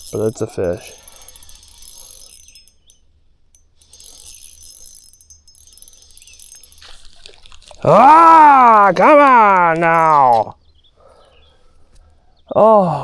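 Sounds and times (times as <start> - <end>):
insect chirring: 0.0 - 11.8.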